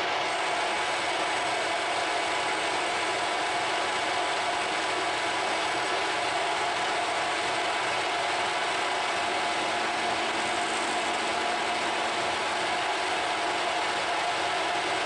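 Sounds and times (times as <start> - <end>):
lathe motor whirring: 0.0 - 15.0.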